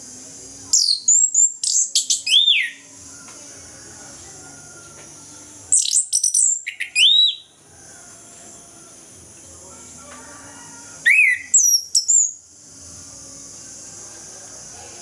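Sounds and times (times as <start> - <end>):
faint high hiss: 0.0 - 15.0
thrush singing: 0.0 - 15.0.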